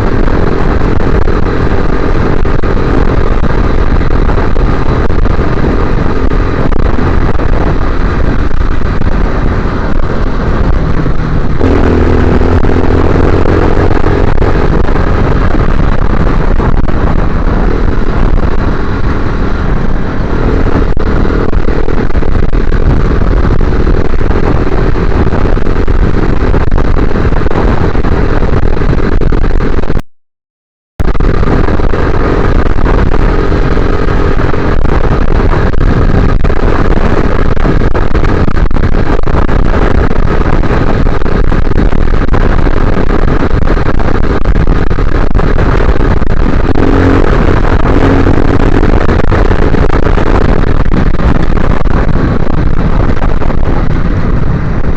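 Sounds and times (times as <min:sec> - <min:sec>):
motorcycle engine revving: 0:00.0 - 0:30.0, 0:31.1 - 0:54.9.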